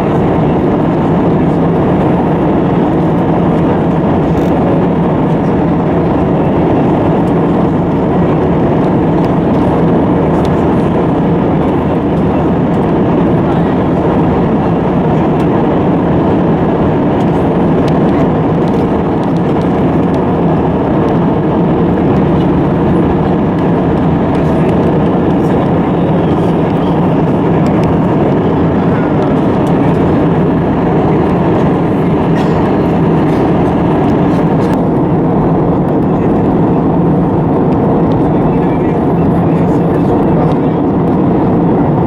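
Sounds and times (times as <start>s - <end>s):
airplane cabin engine rush: 0.0s - 42.0s.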